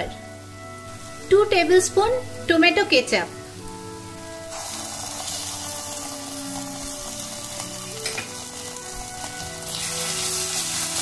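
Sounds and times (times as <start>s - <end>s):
garlic and onion sizzling in oil: 0.0s - 11.0s.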